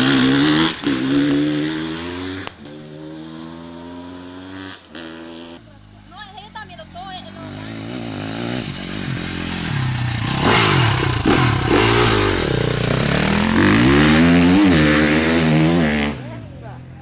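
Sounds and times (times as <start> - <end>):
dirt bike engine revving: 0.0 - 5.6, 6.8 - 16.4.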